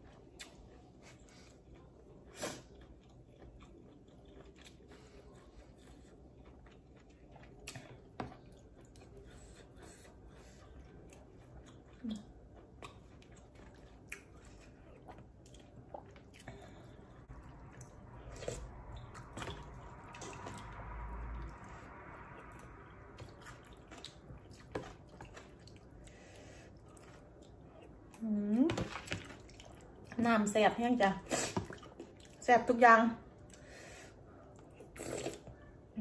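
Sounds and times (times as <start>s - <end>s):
chewing and biting food: 0.0s - 28.2s, 28.8s - 30.2s.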